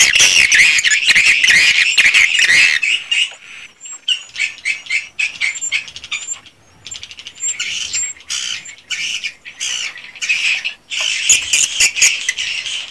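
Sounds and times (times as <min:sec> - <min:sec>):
swiftlets twittering and chirping: 0:00.0 - 0:12.9.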